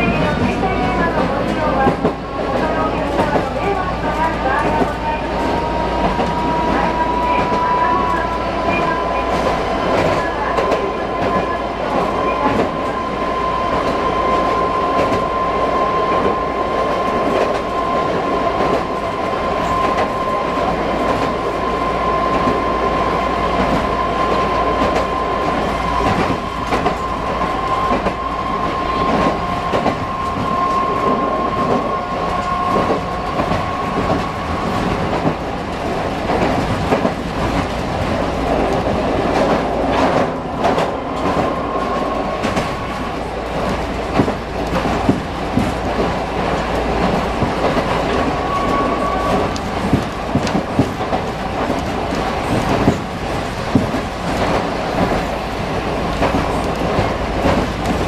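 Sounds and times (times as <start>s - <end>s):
tram rolling rumble: 0.0s - 58.0s.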